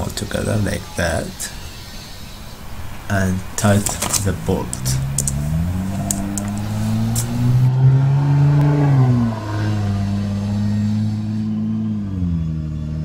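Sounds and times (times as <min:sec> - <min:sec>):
car engine revving: 0:02.3 - 0:13.0.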